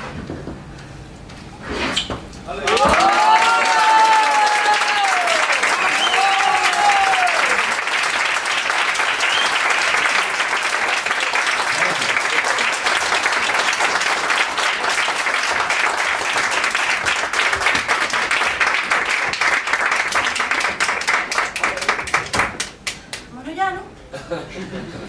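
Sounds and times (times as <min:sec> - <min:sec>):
audience applauding: 0:02.6 - 0:23.2.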